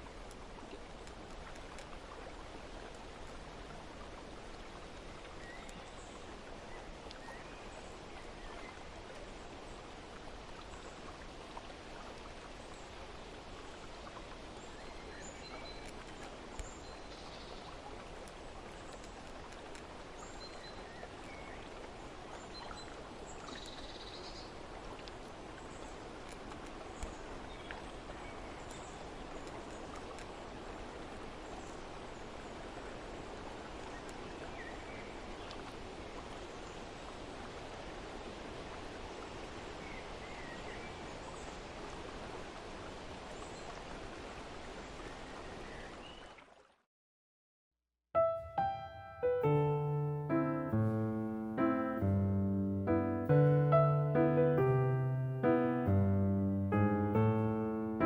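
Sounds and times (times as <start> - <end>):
rushing water: 0.0 - 46.9, 48.2 - 58.0.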